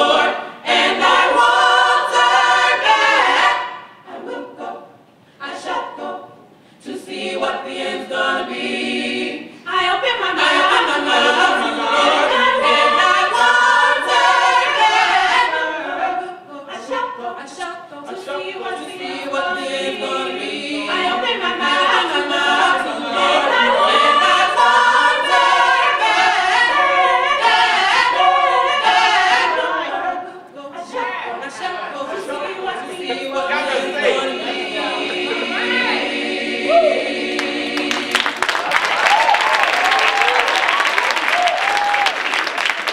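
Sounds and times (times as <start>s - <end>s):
gospel choir singing: 0.0s - 42.9s.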